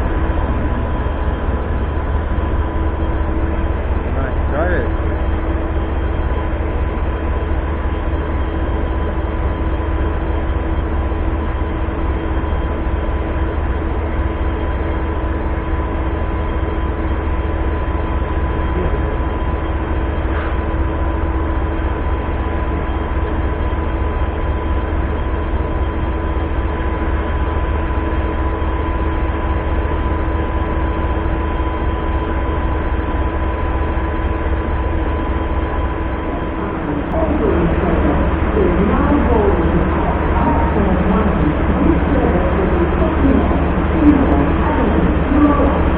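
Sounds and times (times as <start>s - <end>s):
constant hum: 0.0s - 45.9s
train rumbling: 0.0s - 45.9s.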